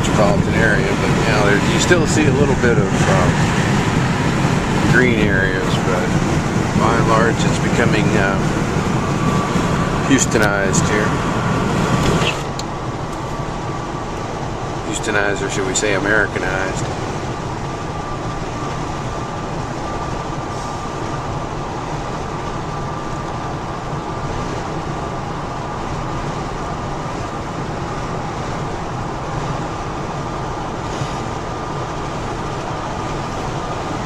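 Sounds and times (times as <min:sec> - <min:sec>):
vehicle road noise: 0:00.0 - 0:34.0.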